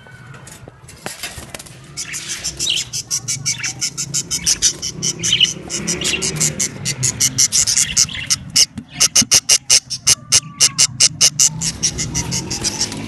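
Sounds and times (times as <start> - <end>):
small birds chirping: 1.6 - 13.0.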